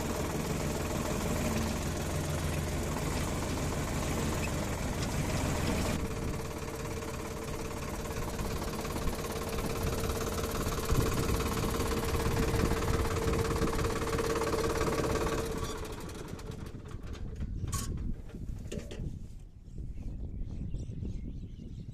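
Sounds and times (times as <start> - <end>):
tractor engine whining: 0.0 - 19.0.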